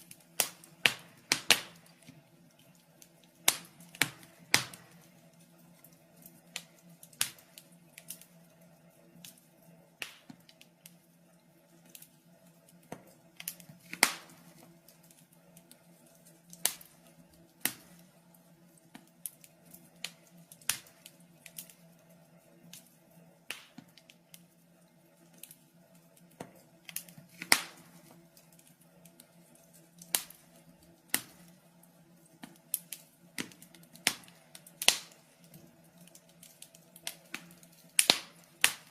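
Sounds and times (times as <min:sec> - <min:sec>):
faint steady hum: 0:00.0 - 0:38.9
wood fire crackling: 0:00.0 - 0:38.9.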